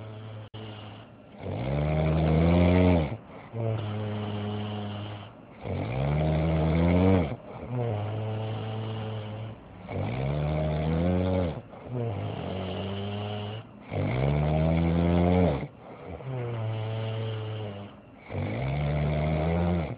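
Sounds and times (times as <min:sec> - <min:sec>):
man snoring loudly: 0:00.0 - 0:19.9.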